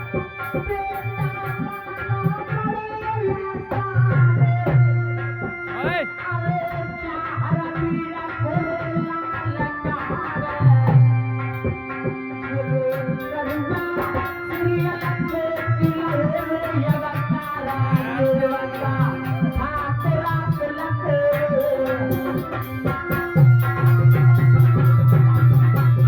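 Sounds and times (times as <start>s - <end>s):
hand drum rhythm: 0.0s - 26.0s.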